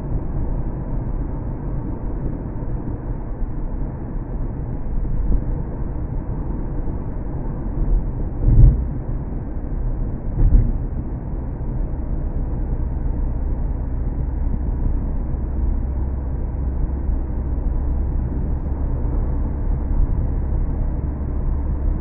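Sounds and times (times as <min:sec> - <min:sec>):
car engine and tyre noise inside cabin: 0:00.0 - 0:22.0.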